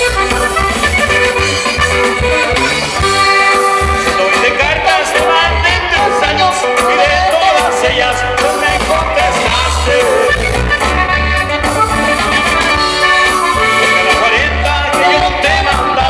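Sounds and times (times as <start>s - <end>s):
latin music with pulsing bass: 0.0s - 16.0s.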